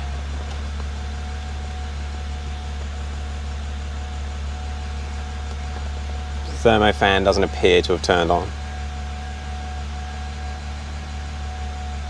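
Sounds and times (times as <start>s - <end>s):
car engine idling: 0.0s - 12.0s
faint steady whine: 0.0s - 12.0s.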